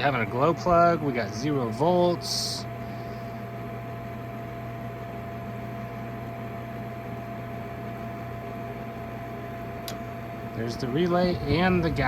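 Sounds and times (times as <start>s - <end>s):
gas furnace humming: 0.0s - 12.0s.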